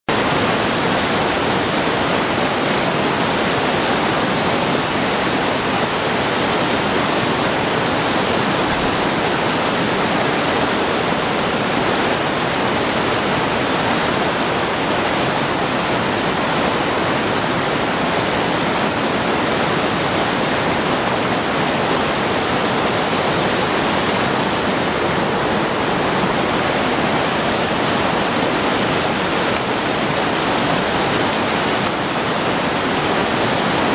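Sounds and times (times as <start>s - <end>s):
river rapids rushing: 0.1s - 33.9s.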